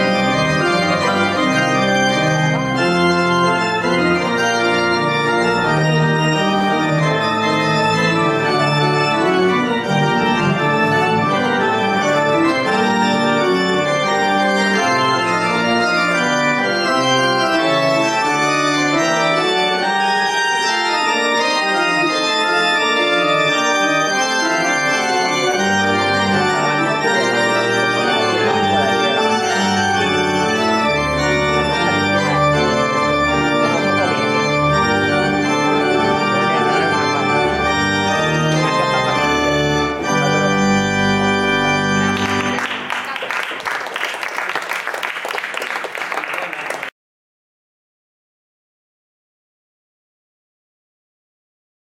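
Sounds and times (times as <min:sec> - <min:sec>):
deep organ bass notes: 0:00.0 - 0:42.9
pipe organ chords: 0:00.0 - 0:45.1.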